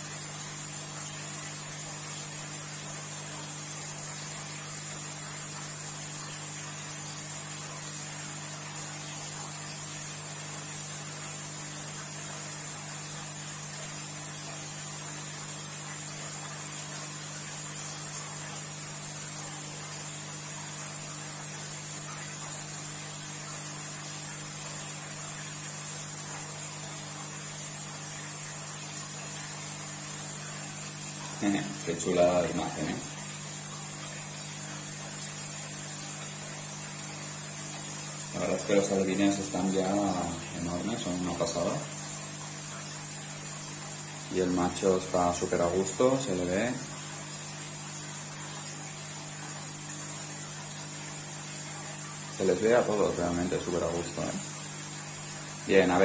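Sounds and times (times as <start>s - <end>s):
aquarium equipment humming: 0.0s - 56.0s.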